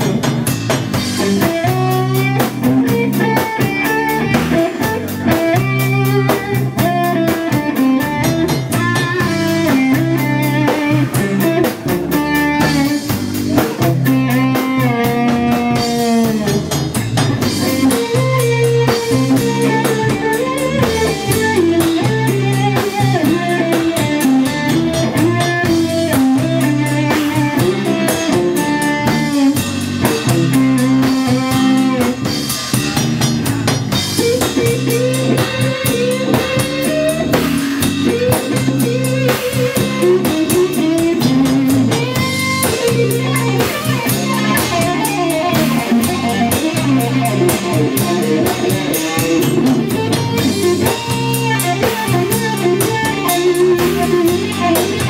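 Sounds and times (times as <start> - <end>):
drum kit: 0.0 - 55.0
electric guitar lead lines: 0.0 - 55.0.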